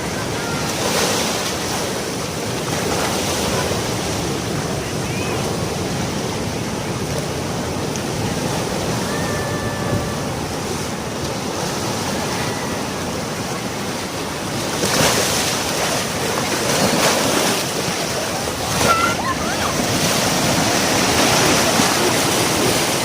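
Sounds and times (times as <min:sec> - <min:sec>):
surf washing on a beach: 0:00.0 - 0:23.0
wave breaking: 0:00.0 - 0:23.0.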